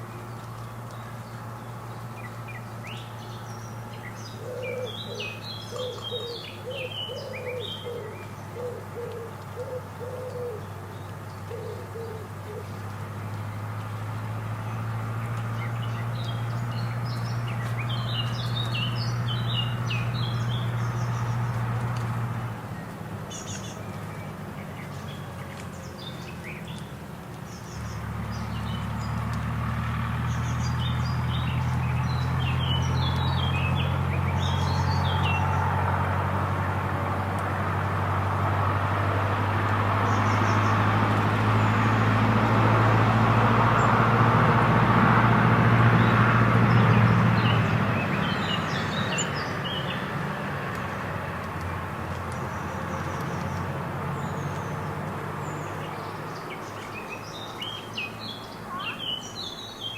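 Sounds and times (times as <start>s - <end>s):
small birds chirping: 0.0s - 35.9s, 36.8s - 42.4s, 45.2s - 59.9s
low engine hum: 0.0s - 59.9s.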